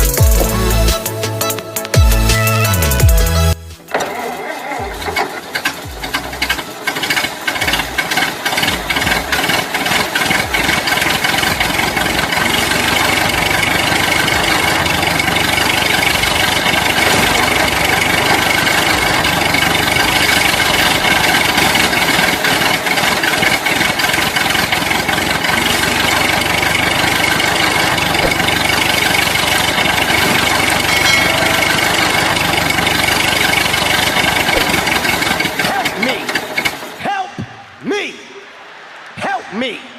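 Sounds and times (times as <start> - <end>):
irregular ticking: 0.0 - 4.0, 4.8 - 37.0.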